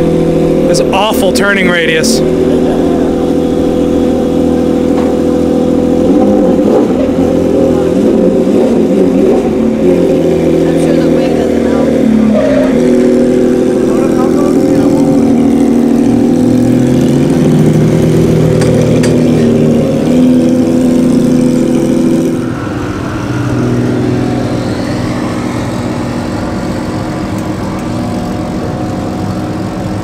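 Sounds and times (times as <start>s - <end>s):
race car engine idling loudly: 0.0s - 30.0s
race cars idling: 0.0s - 30.0s.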